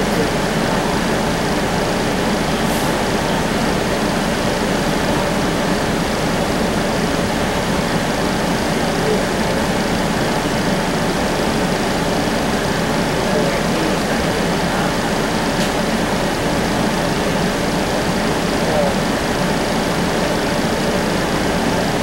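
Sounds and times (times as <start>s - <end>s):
streetcar running noise: 0.0s - 22.0s.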